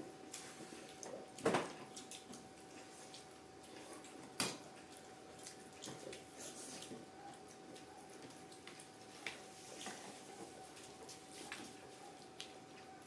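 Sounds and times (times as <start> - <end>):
faint steady hum: 0.0 - 13.0
wet chewing and smacking: 0.3 - 13.0.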